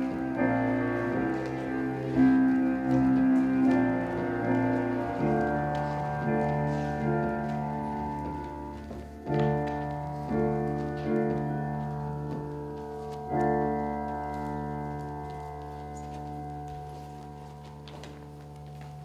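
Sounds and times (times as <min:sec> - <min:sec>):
slow instrumental chords: 0:00.0 - 0:19.0.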